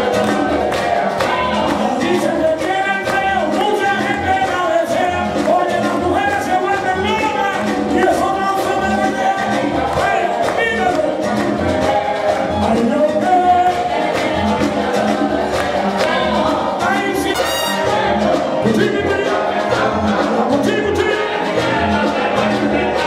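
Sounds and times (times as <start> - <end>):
live latin band music: 0.0 - 23.0
person singing: 0.0 - 23.0.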